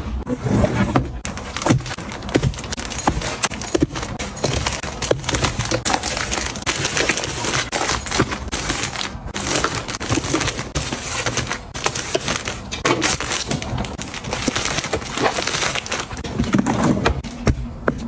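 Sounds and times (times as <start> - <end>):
packs tapping drawer sides: 0.8 - 18.0
plastic tissue packs crinkling: 1.0 - 17.3.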